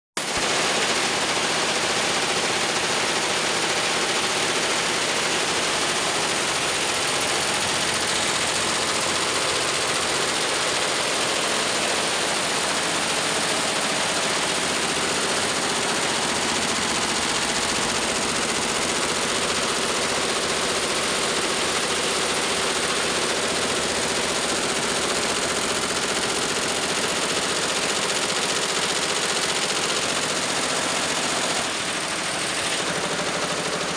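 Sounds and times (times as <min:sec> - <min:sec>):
embroidery machine clatter: 0:00.2 - 0:33.9.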